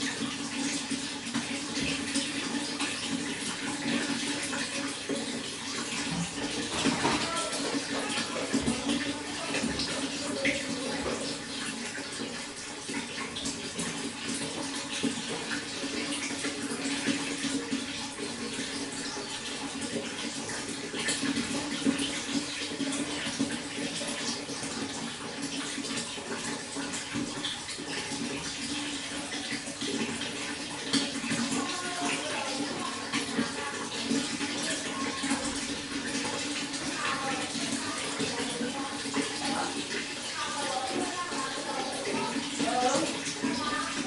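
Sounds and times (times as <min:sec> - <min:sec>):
running water rushing: 0:00.0 - 0:44.0
water drips: 0:00.0 - 0:44.0.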